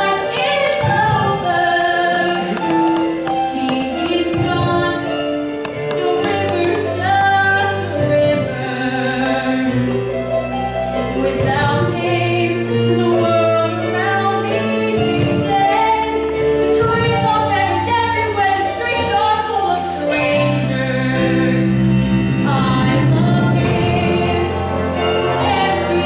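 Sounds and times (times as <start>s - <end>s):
woman singing a ballad: 0.0s - 10.0s, 11.0s - 26.0s
orchestral accompaniment: 0.0s - 26.0s.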